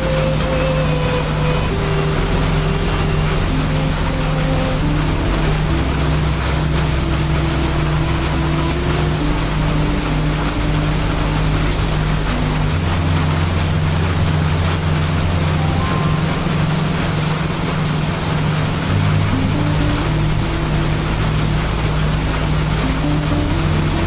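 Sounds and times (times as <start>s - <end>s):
brown noise hiss: 0.0s - 24.0s
heavy rain: 0.0s - 24.0s
low sustained tones: 0.0s - 24.0s.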